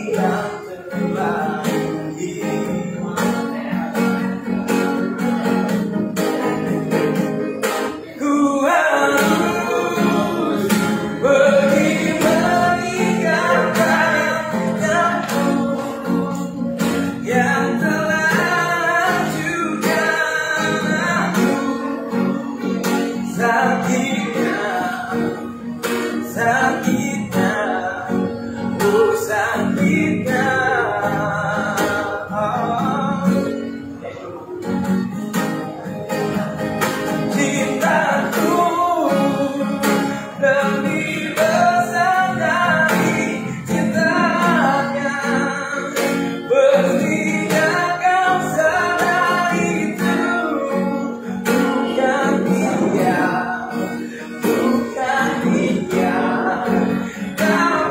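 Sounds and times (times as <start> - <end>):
man singing: 0.0 - 57.9
strummed acoustic guitar: 0.0 - 57.9.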